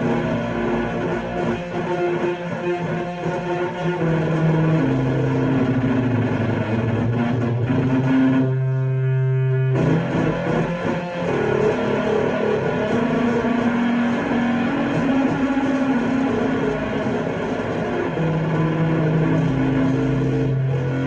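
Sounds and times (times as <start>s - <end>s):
fuzzed electric guitar: 0.0s - 21.0s.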